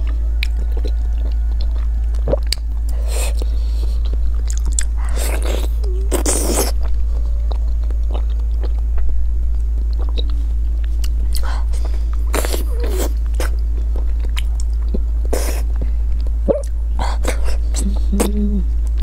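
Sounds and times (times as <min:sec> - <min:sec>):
person chewing: 0:00.0 - 0:19.0
steady low hum: 0:00.0 - 0:19.0.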